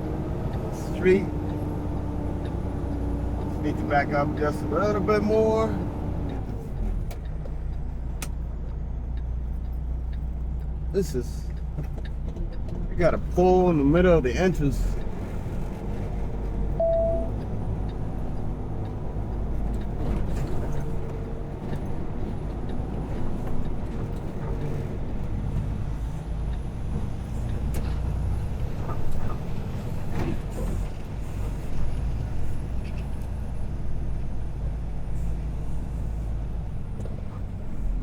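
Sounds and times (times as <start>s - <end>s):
truck diesel engine running: 0.0s - 38.0s.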